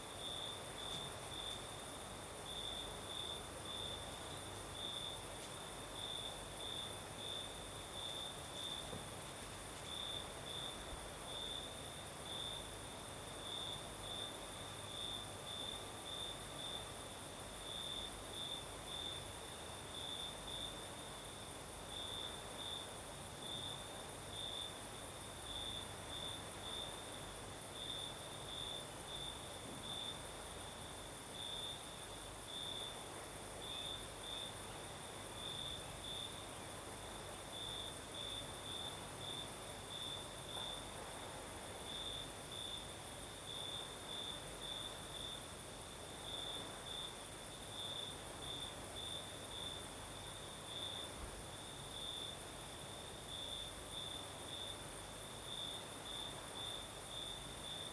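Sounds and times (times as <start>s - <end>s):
cricket chirping: 0.0s - 57.9s.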